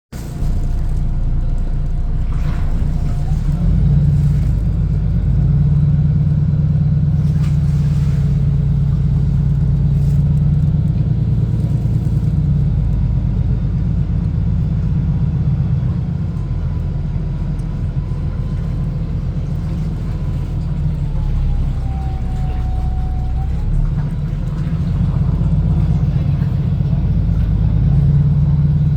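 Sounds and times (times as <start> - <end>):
motor engine running: 0.1 - 28.9.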